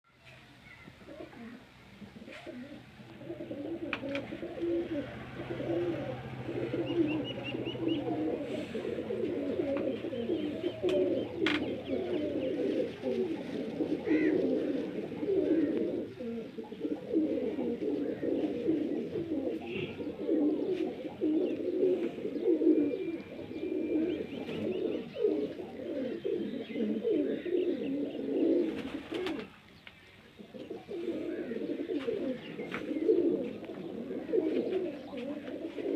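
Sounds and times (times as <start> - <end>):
pigeons cooing: 1.0 - 29.6, 30.2 - 35.9.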